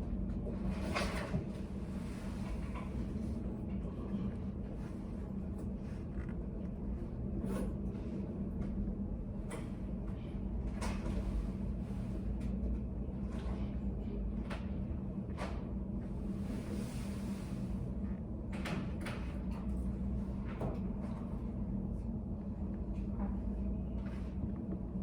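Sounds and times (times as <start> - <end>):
steady low room hum: 0.0 - 25.0.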